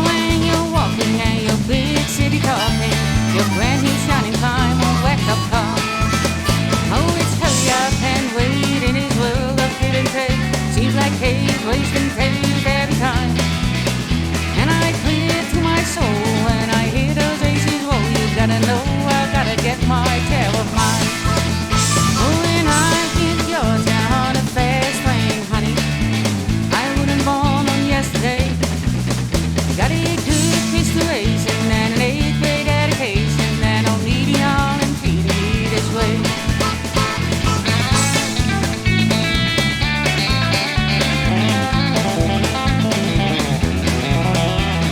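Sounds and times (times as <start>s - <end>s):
country rock band playing: 0.0s - 44.9s
sliding lead guitar line: 0.0s - 44.9s
steady drum beat: 0.0s - 44.9s
stepping bass line: 0.0s - 44.9s.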